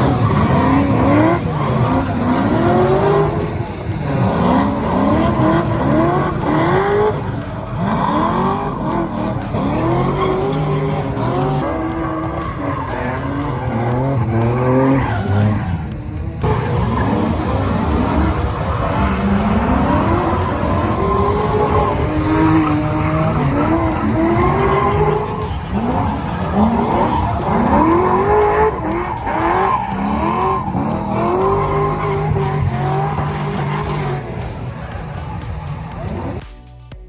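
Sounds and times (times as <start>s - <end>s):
car engine revving: 0.0s - 36.4s
tyres screeching: 0.0s - 36.4s.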